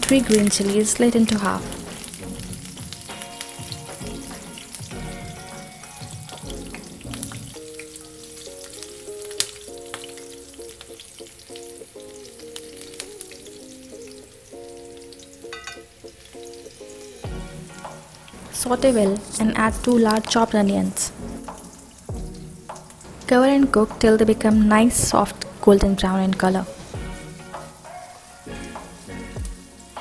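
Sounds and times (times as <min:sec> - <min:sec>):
soft background music: 0:00.0 - 0:30.0
spices sizzling in hot oil: 0:00.0 - 0:30.0.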